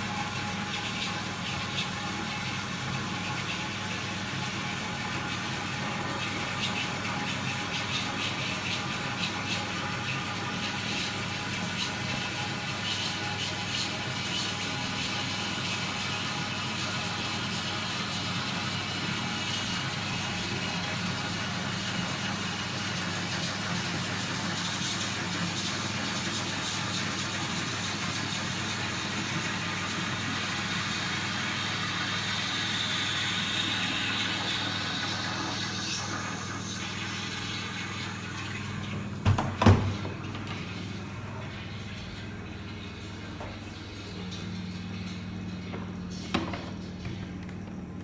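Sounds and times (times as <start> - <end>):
toilet cistern refilling: 0.0 - 48.0.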